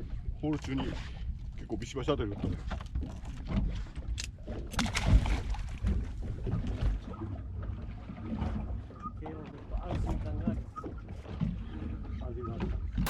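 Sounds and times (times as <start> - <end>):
water sloshing against boat hull: 0.0 - 13.0
water splashes: 0.6 - 12.2.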